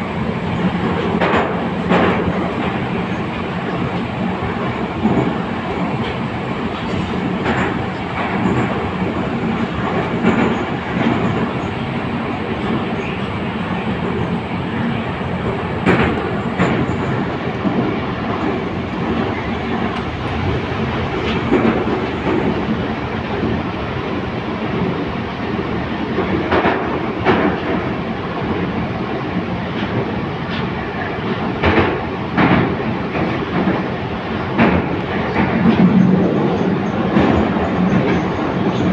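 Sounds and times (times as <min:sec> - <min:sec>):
track clacks: 0:00.0 - 0:38.9
train wheels rumbling: 0:00.0 - 0:38.9.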